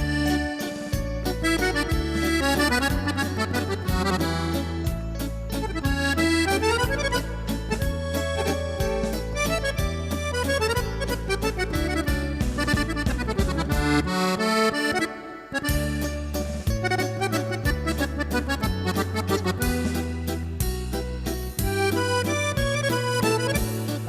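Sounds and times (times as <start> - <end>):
accordion music with bass rhythm: 0.0 - 24.0.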